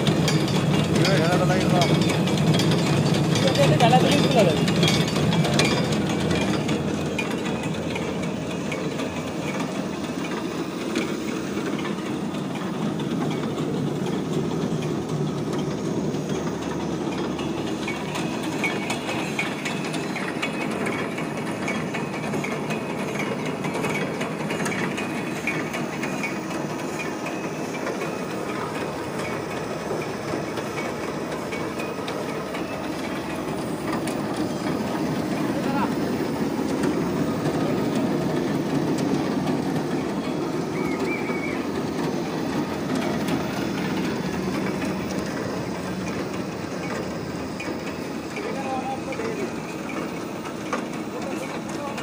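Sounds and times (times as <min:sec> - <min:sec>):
cutting machine running: 0:00.0 - 0:52.0.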